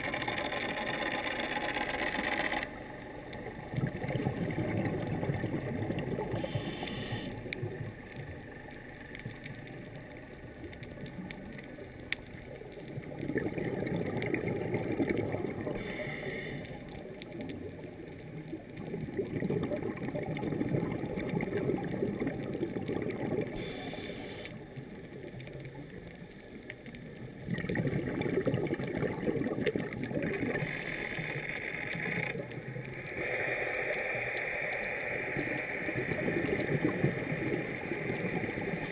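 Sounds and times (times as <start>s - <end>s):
exhaled bubbles gurgling underwater: 0.0s - 38.9s.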